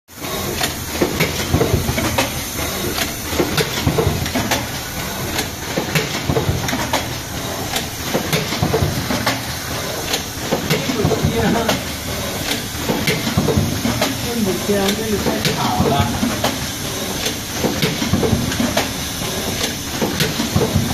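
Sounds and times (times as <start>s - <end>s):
machine rumble and hiss: 0.1s - 20.9s
machine clicks and clacks: 0.2s - 20.9s.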